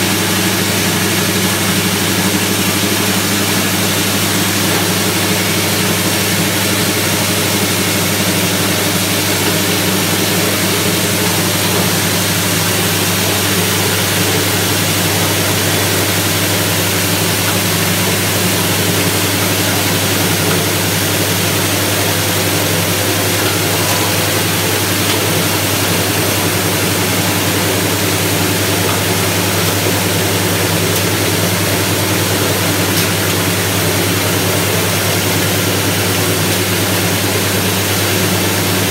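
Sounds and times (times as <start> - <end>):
petrol engine running: 0.0 - 38.9.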